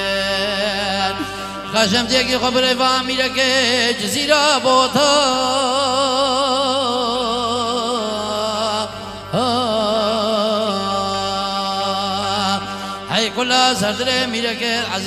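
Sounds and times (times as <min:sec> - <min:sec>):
man singing into a microphone: 0:00.0 - 0:15.0
steady drone: 0:00.0 - 0:15.0.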